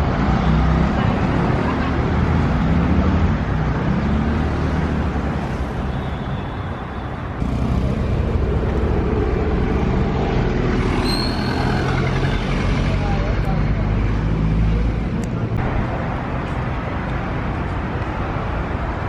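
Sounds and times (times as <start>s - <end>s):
cars passing by: 0.0s - 19.0s.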